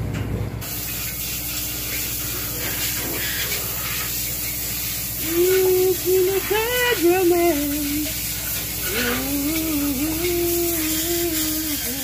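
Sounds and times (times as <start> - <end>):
steady hissing: 0.6 - 12.0.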